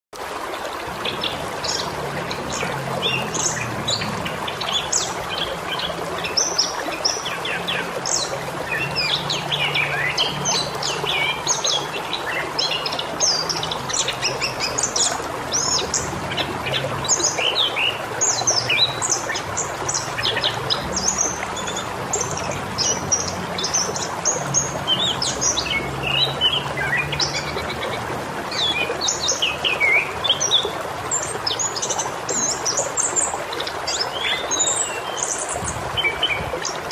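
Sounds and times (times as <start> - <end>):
flowing water: 0.1 - 36.9.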